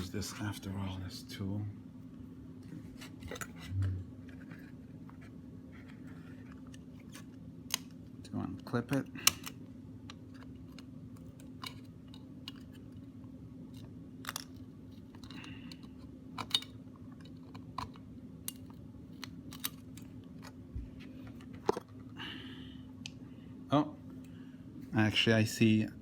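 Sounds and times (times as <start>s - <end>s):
steady faint hum: 0.0s - 26.0s.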